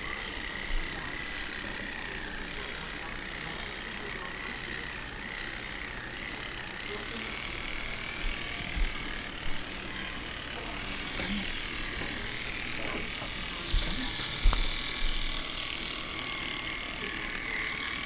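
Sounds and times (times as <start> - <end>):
electric toothbrush buzzing: 0.0 - 18.0.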